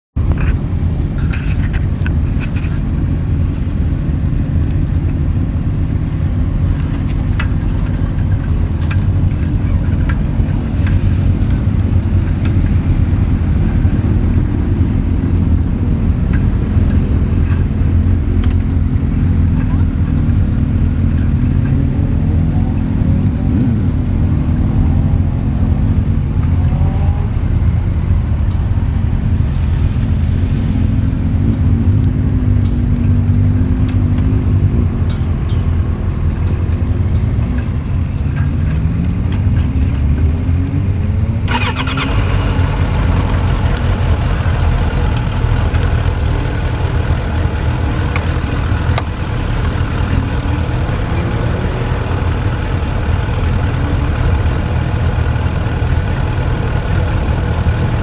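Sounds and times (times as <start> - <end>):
motorcycle engine revving: 4.1 - 35.2, 38.6 - 58.0.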